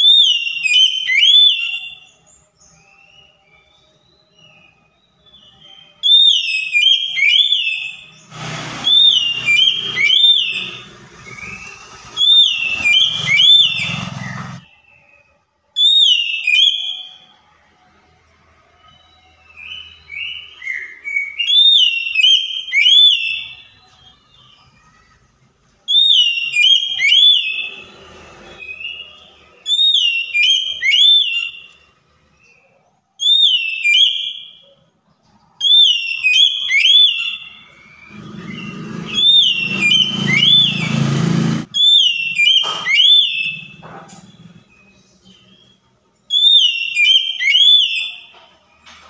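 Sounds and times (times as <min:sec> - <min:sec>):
bird singing whistled phrases: 0:00.0 - 0:17.3, 0:18.8 - 0:24.9, 0:25.9 - 0:27.9, 0:28.6 - 0:31.8, 0:33.2 - 0:34.7, 0:35.6 - 0:41.0, 0:41.7 - 0:48.3.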